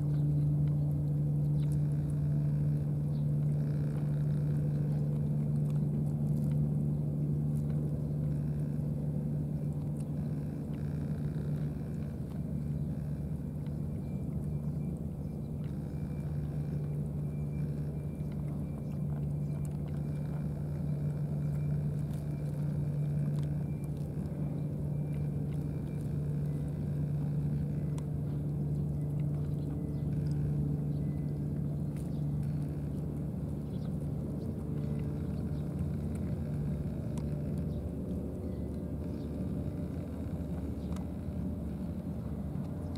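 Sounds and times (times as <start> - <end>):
faint ticks: 0.0 - 42.9
low engine hum: 0.0 - 42.9.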